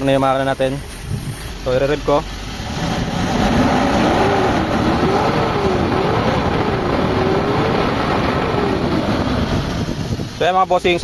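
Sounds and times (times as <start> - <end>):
van engine revving: 0.0 - 10.4.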